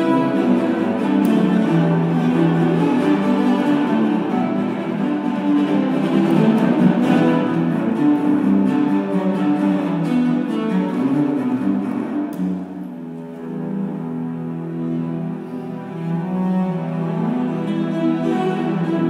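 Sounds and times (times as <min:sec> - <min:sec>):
cellos bowing together: 0:00.0 - 0:19.0.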